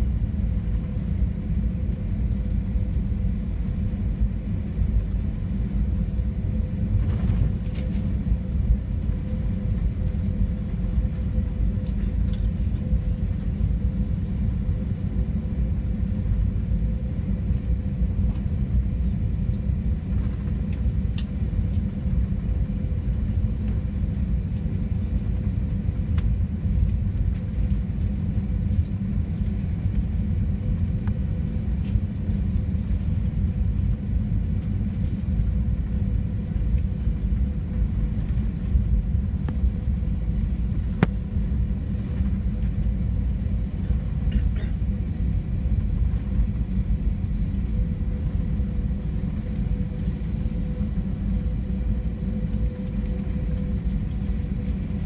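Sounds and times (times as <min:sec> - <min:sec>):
aircraft cabin rumble: 0:00.0 - 0:55.0
faint steady hum: 0:00.0 - 0:55.0.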